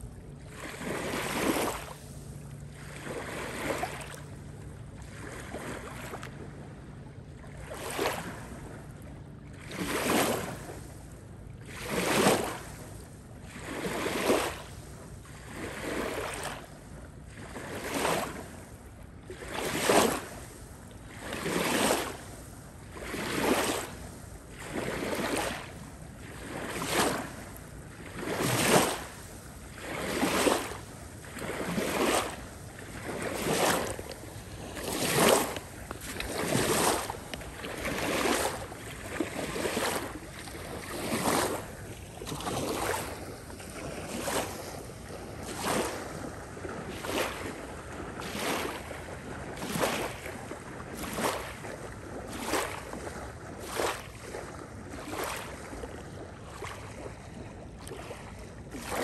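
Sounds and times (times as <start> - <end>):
small waves washing on bank: 0.0 - 59.0.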